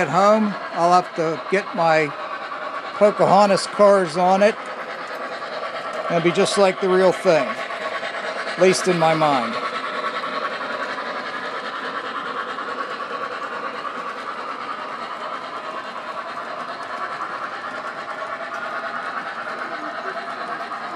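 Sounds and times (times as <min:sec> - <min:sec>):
model train wheels clattering: 0:00.0 - 0:20.9.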